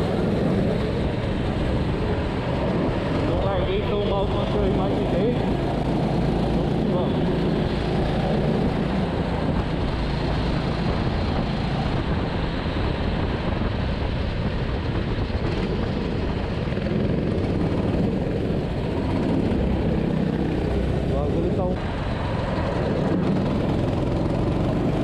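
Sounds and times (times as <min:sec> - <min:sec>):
go-kart engine running: 0:00.0 - 0:25.0.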